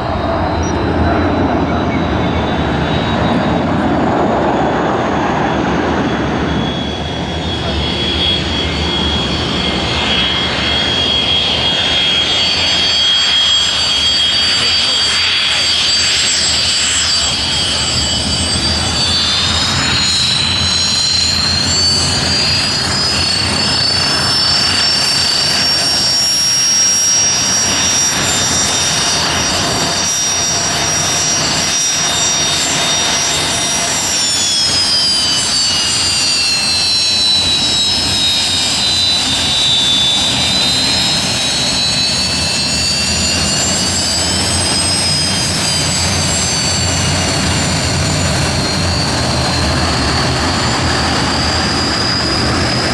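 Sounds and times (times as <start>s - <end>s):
jet engines roaring with whine: 0.0s - 52.9s.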